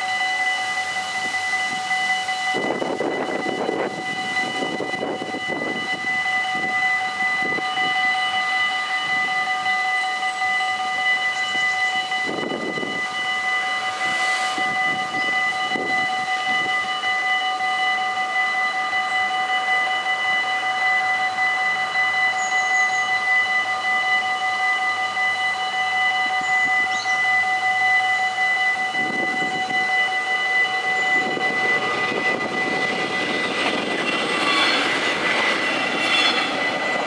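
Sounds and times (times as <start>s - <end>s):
level crossing warning bells: 0.0s - 37.0s.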